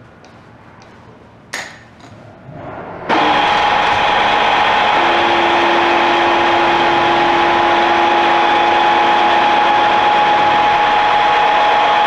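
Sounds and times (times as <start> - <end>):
milling machine hum and whine: 2.3 - 12.0.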